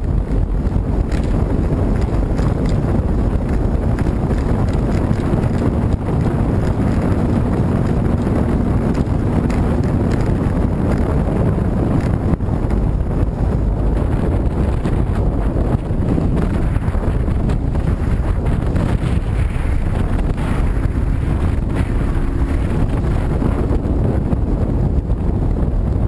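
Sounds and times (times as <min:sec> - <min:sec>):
outboard motor running: 0:00.0 - 0:26.0
water along boat hull: 0:00.0 - 0:26.0
wind buffeting microphone: 0:00.0 - 0:26.0.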